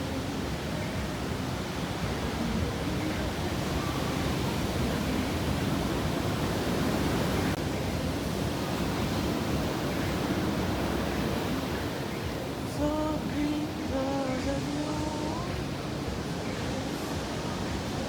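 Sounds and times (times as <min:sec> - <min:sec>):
faint voices: 0:00.0 - 0:18.0
ocean surf rushing: 0:00.0 - 0:18.0.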